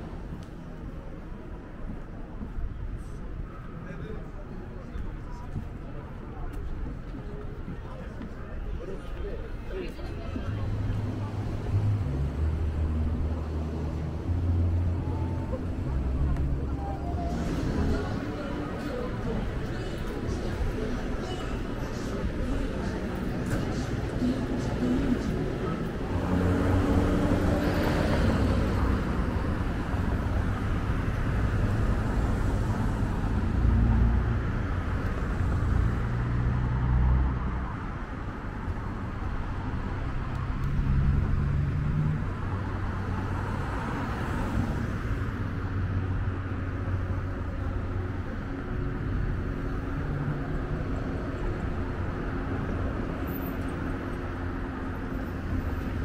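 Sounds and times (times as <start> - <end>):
low rumble of car engines: 0.0 - 56.0
vehicles passing close by: 0.0 - 56.0.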